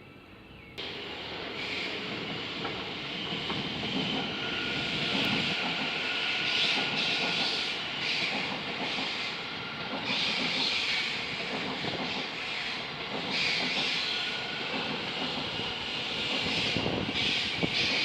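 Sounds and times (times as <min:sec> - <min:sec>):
train wheels on rail: 0:00.8 - 0:18.0.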